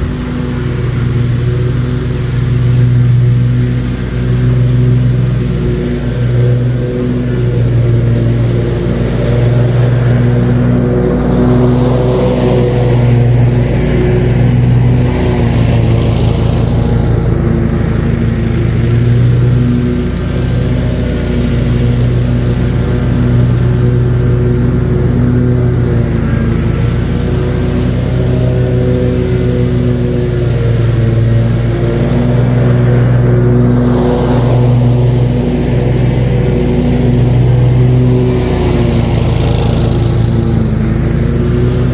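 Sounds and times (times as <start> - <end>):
ride-on lawn mower engine: 0.0 - 41.9.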